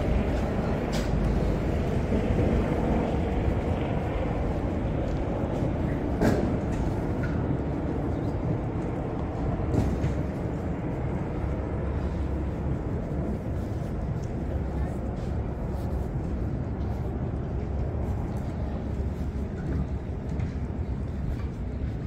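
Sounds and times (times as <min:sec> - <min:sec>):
low rumble of passing vehicles: 0:00.0 - 0:22.0.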